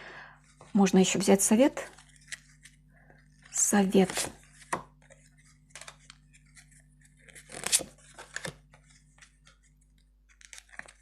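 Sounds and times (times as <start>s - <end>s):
faint steady hum: 0.0s - 11.0s
cards rustling and slapping: 1.9s - 11.0s.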